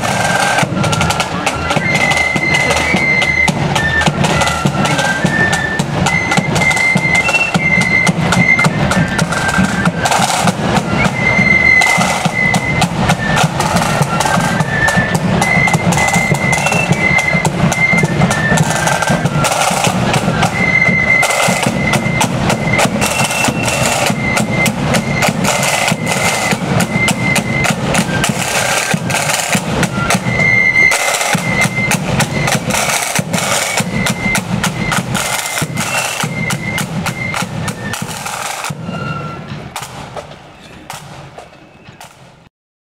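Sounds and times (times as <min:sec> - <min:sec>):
marching band playing: 0:00.0 - 0:42.5
rattling side drums: 0:00.0 - 0:42.5.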